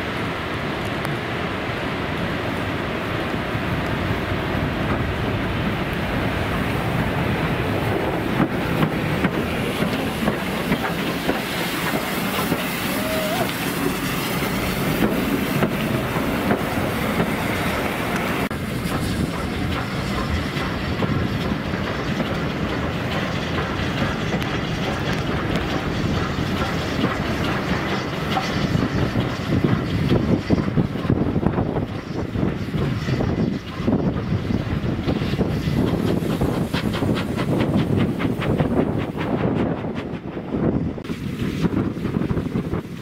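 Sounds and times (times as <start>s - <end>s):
train wheels clicking over rail joints: 3.1s - 43.0s.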